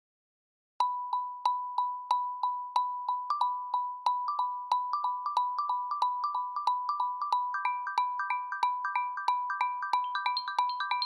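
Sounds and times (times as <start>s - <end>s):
marimba ringtone: 0.8s - 11.0s.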